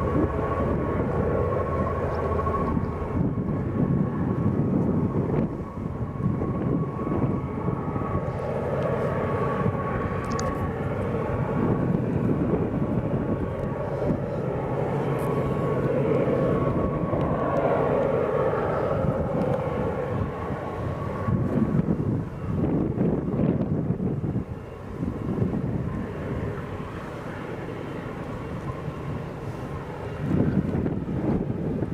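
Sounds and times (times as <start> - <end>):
locomotive engine drone: 0.0 - 31.9
thin high whine: 4.8 - 31.9.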